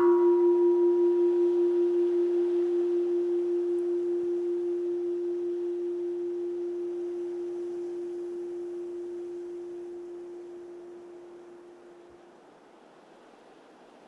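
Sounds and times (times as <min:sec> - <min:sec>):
bowl bell ringing: 0:00.0 - 0:12.2.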